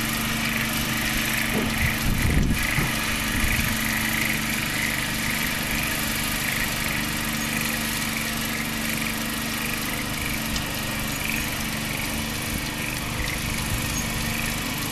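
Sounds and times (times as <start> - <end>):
small engine running: 0.0 - 14.9.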